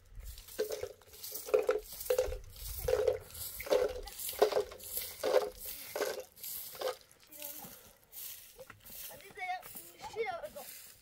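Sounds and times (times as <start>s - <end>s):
broom sweeping gravel ground: 0.0s - 11.0s.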